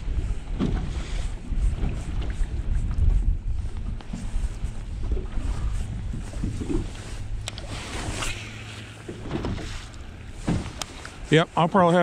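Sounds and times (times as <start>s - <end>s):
water lapping at boat hull: 0.0s - 12.0s
wind buffeting microphone: 0.0s - 12.0s.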